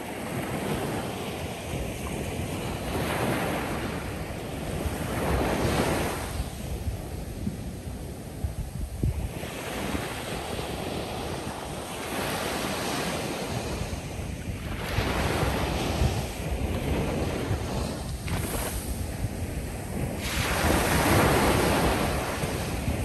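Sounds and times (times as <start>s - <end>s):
ocean waves crashing on beach: 0.0s - 23.0s.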